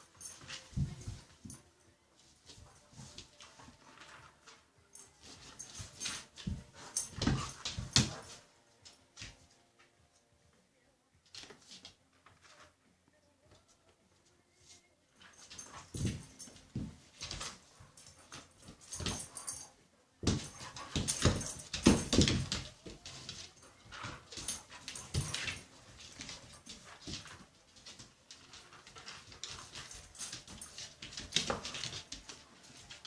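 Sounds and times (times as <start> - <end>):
dogs scuffling: 0.0 - 9.6, 14.6 - 33.0.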